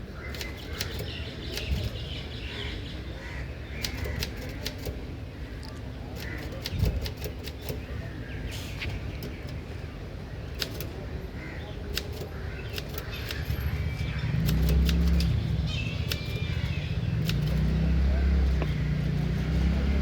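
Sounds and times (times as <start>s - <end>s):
vehicle engine rumbling: 3.5s - 20.0s.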